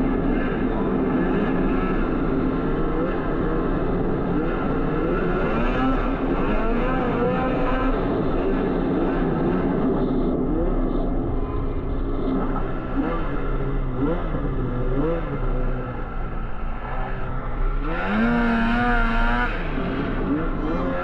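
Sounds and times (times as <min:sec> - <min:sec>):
snowmobile engine running: 0:00.0 - 0:21.0.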